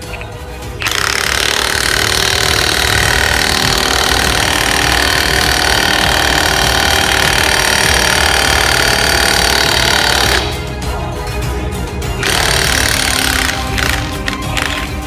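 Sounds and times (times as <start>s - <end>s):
impact wrench hammering: 0.8s - 10.7s, 12.2s - 15.0s.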